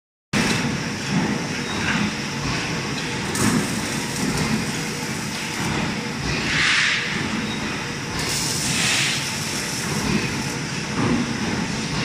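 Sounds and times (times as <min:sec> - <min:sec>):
machine clatters: 0:00.4 - 0:06.5, 0:07.1 - 0:12.0
machine humming: 0:00.4 - 0:12.0.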